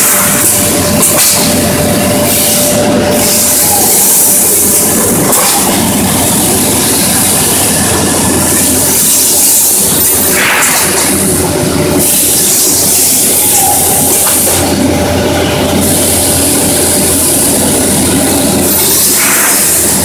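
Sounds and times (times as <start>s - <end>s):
machine hum and clatter: 0.0s - 20.0s.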